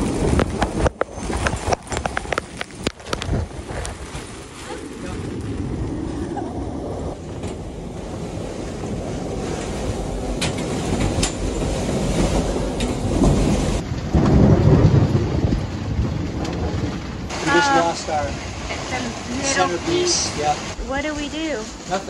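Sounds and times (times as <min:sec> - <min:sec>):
deep rumble: 0:00.0 - 0:22.0
rain lashing a sailboat: 0:00.0 - 0:22.0
storm wind: 0:00.0 - 0:22.0
wind buffeting on microphone: 0:00.0 - 0:22.0.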